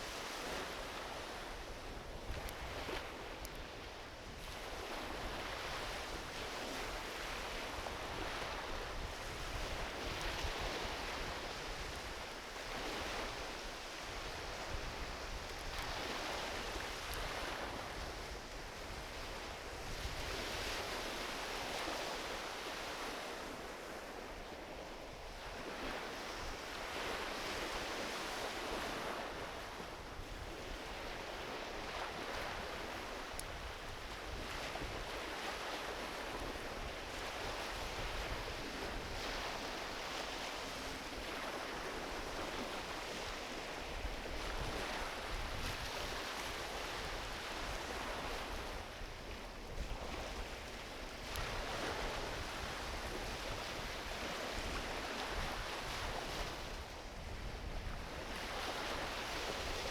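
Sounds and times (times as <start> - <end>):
small waves washing onto beach: 0.0 - 59.9.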